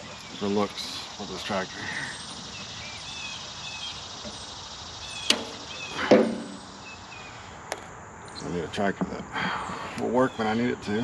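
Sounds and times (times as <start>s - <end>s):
insects chirping: 0.0s - 11.0s
outdoor hiss: 0.0s - 11.0s.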